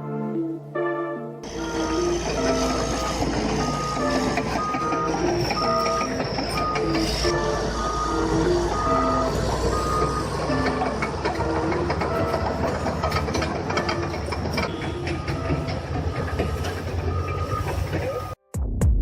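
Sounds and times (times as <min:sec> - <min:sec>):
heavy machinery rumbling: 0:01.4 - 0:18.4
machinery clanks: 0:01.4 - 0:18.4
short beeping tones: 0:01.5 - 0:18.4.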